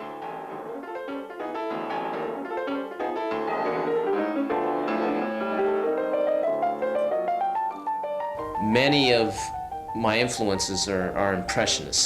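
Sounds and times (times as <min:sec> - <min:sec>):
piano playing runs over chords: 0:00.0 - 0:12.0.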